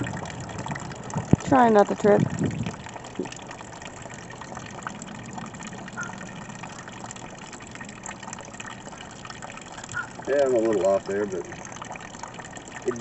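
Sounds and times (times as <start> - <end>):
pool pump hum: 0.0 - 13.0
water rushing and splashing: 0.0 - 13.0.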